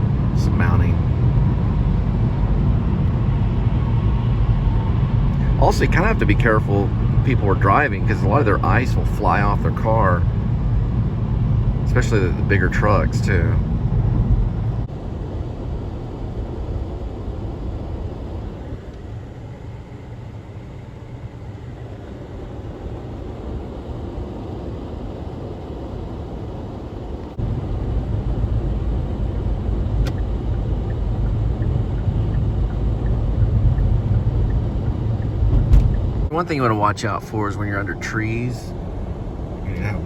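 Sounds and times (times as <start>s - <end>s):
road and engine noise in car: 0.0s - 40.0s.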